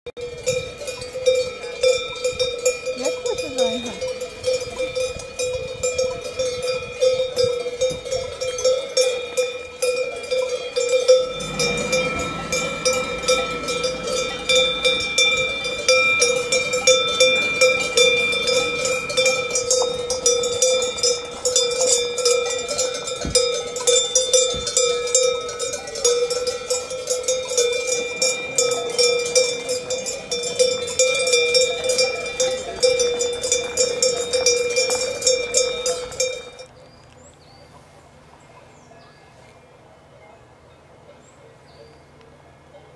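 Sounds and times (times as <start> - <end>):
cowbells clanking: 0.1 - 36.7.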